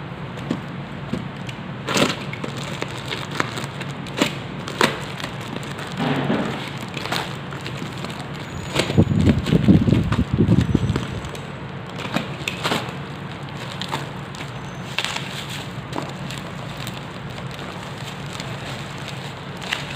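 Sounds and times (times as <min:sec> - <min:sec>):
packaging crackling and crinkling: 0:00.2 - 0:19.9.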